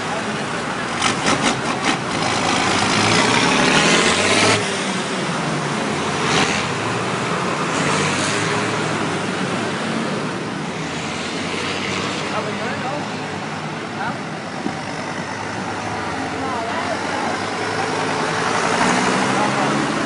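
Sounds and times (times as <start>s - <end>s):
tractor approaching: 0.0s - 20.0s
tractor diesel engine passing: 0.0s - 20.0s.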